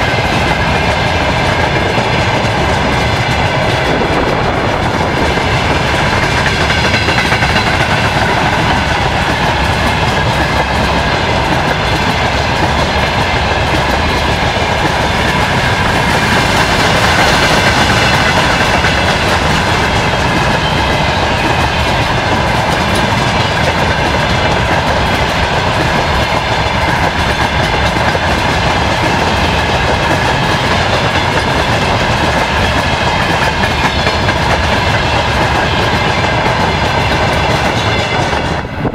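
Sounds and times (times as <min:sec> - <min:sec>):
train wagons rumbling past: 0:00.0 - 0:38.9
wheels clacking over rail joints: 0:00.0 - 0:38.9.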